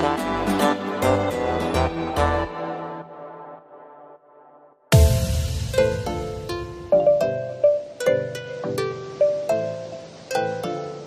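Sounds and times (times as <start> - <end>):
plucked string instrument melody: 0.0 - 3.0, 4.9 - 11.0.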